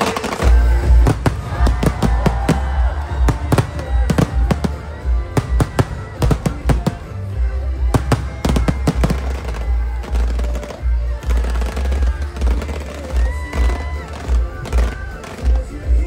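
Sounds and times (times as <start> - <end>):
fireworks bangs: 0.0 - 16.0
music with heavy bass beat: 0.1 - 16.0.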